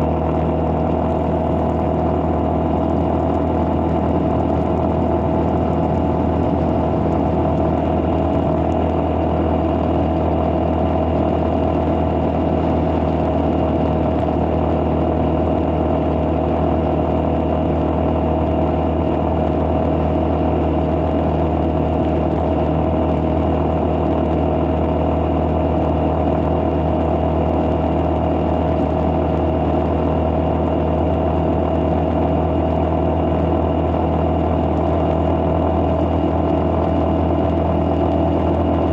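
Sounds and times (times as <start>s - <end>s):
vehicle engine humming: 0.0s - 38.9s.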